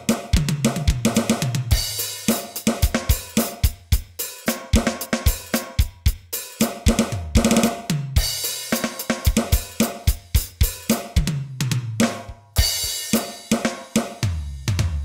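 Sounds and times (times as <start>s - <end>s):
electronic drum kit groove: 0.0s - 15.0s.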